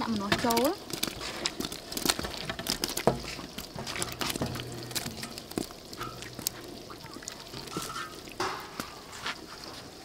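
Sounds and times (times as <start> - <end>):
ladle stirring soup: 0.0 - 10.0.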